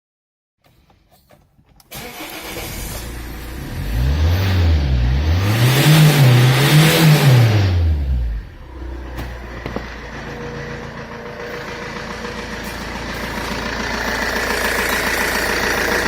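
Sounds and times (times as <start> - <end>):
diesel engine starting: 1.8 - 16.0
diesel engine revving and idling: 2.0 - 16.0.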